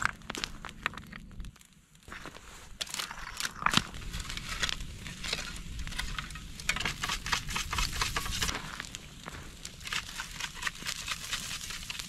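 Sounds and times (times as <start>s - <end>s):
bonfire crackling and popping: 0.0s - 12.0s
low steady rumble: 0.0s - 12.0s.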